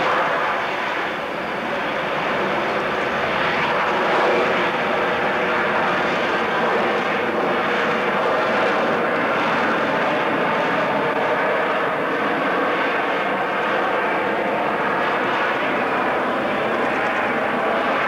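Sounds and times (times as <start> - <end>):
jet flying overhead: 0.0 - 18.0.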